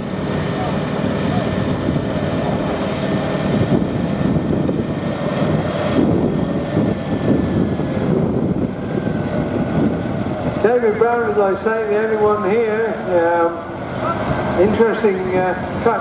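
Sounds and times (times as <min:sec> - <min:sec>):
tractor engines running: 0:00.0 - 0:16.0.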